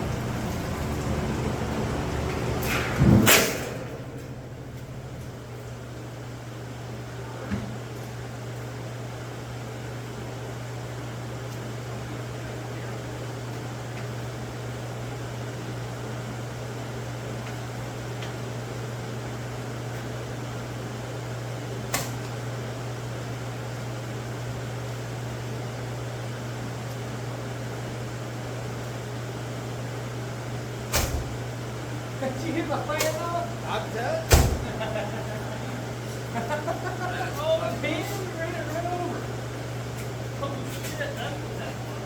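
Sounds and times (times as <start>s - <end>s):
shop fan humming: 0.0s - 42.0s.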